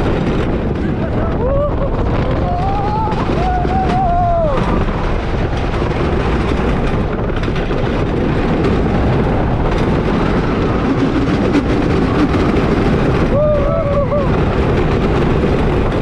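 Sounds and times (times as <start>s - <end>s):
roller coaster wheels clattering: 0.0s - 16.0s
wind rushing over microphone: 0.0s - 16.0s.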